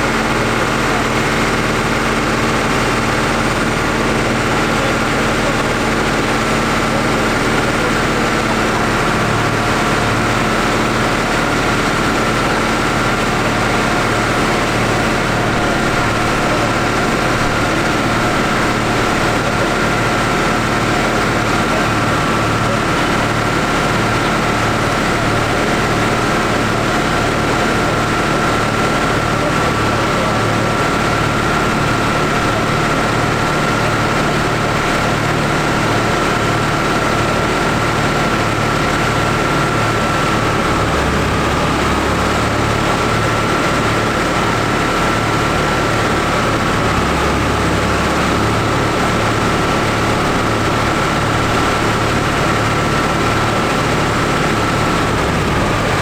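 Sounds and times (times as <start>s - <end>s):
constant high whine: 0.0s - 56.0s
tractor diesel engine running: 0.0s - 56.0s.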